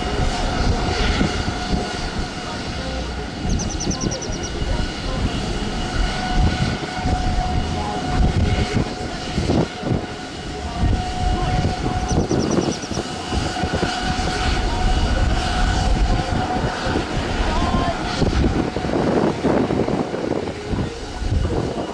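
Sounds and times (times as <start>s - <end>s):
engine rumble: 0.0s - 18.6s
airliner engine whine: 0.0s - 21.9s.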